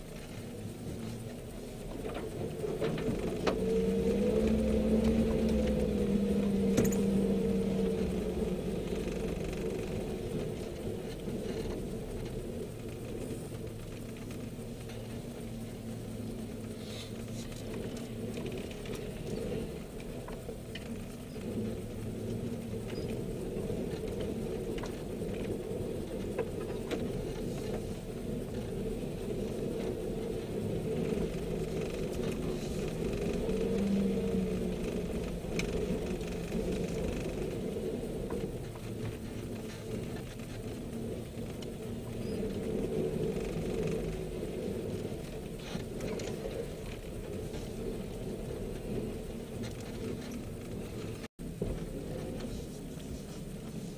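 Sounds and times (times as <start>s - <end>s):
body clicks and rattles: 0.0s - 53.8s
engine running at low revs: 0.0s - 53.9s.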